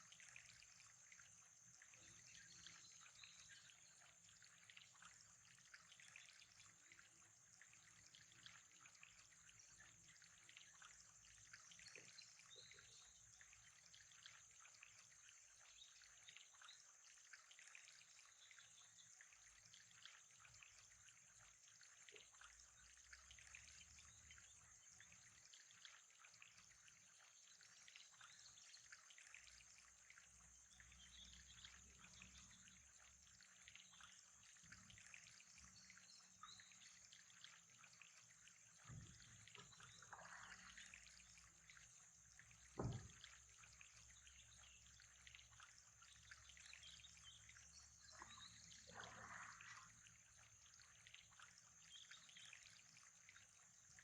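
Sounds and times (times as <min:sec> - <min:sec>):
faint trickling water: 0:00.0 - 0:54.0.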